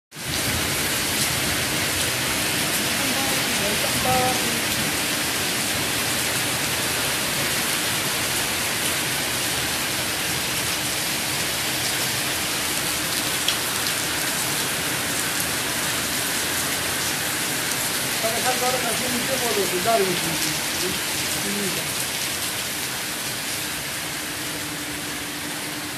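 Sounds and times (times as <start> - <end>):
steady rain falling: 0.1 - 25.9.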